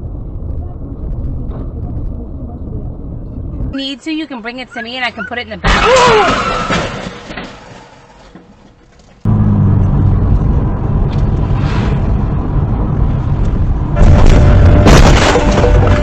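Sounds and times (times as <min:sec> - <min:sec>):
car engine and road noise: 0:00.0 - 0:05.8, 0:06.4 - 0:16.0.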